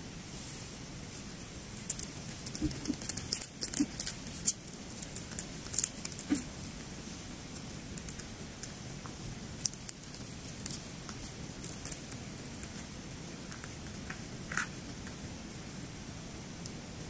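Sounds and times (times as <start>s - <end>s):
faint background noise: 0.0s - 17.0s
hamster chewing food: 1.6s - 15.8s.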